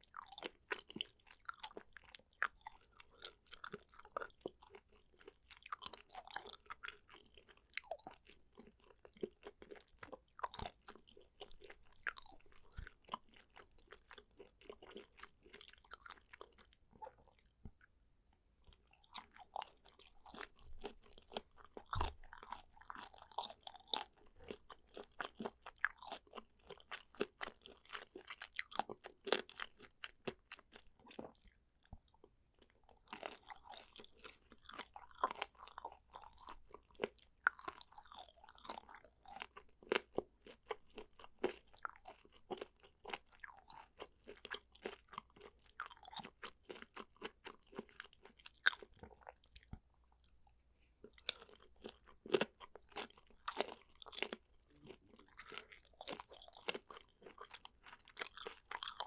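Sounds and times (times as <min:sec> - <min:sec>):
person chewing and crunching food: 0:00.0 - 0:18.0, 0:18.6 - 0:59.0.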